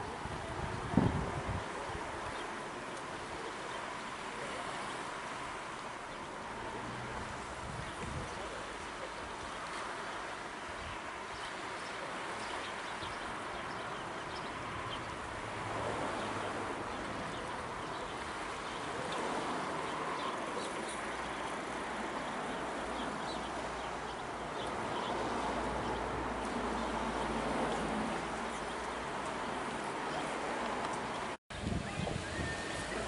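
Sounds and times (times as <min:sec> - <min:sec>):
rush of wind and water: 0:00.0 - 0:33.0.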